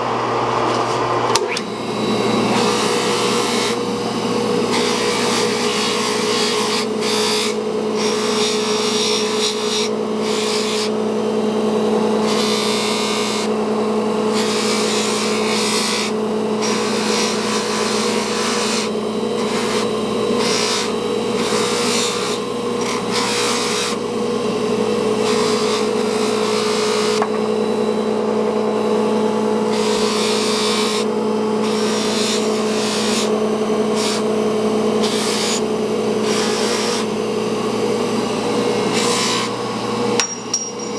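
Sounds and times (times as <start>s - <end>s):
polishing machine humming: 0.0s - 40.9s.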